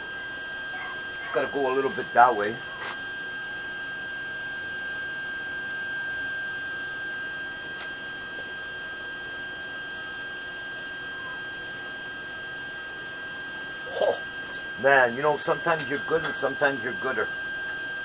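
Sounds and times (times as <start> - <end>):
high-pitched electrical whine: 0.0 - 18.0.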